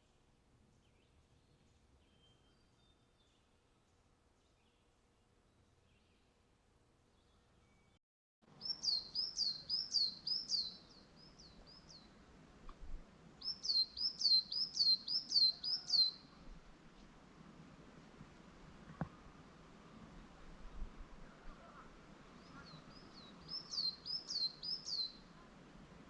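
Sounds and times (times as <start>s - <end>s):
songbird singing: 0.0s - 6.4s, 7.1s - 17.2s, 18.8s - 26.0s
faint outdoor background noise: 0.0s - 26.0s.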